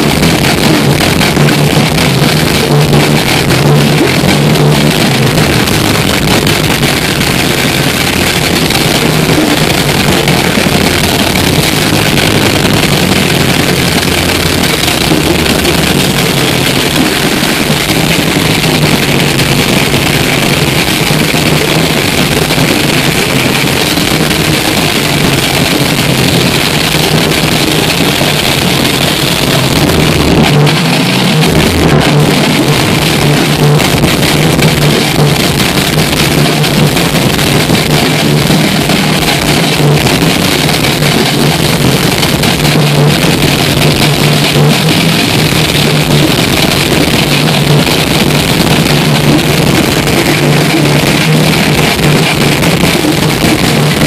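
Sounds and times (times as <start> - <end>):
death metal band playing live: 0.0 - 54.0
distorted electric guitar and bass: 0.0 - 54.0.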